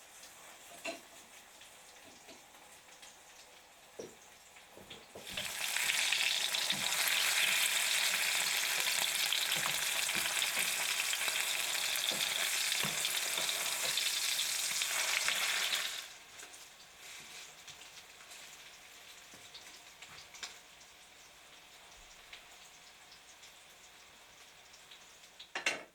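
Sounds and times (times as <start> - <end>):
food sizzling in hot oil: 0.0 - 25.7.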